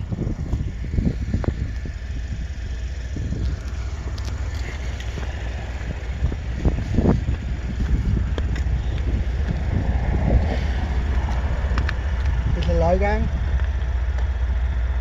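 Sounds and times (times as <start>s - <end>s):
wind on microphone: 0.0s - 13.8s
road traffic passing: 0.0s - 15.0s.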